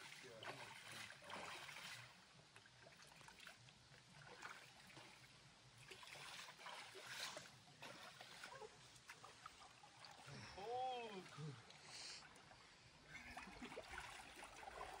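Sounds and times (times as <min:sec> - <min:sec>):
small water splashes: 0:00.0 - 0:15.0
water trickling and lapping: 0:00.0 - 0:15.0.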